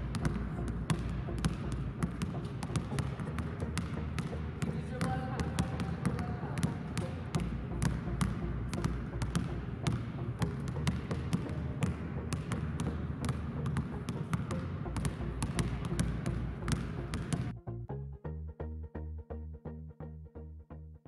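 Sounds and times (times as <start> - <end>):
basketballs bouncing on hardwood: 0.0 - 17.5.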